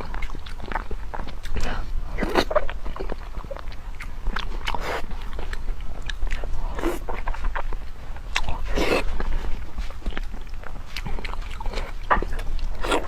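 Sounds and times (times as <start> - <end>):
person chewing wetly: 0.0 - 13.0.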